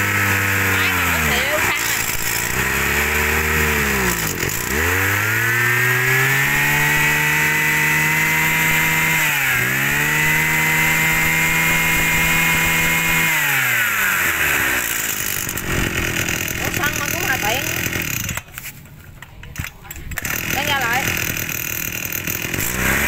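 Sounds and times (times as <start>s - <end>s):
brush cutter engine running: 0.0s - 18.7s, 19.5s - 23.0s.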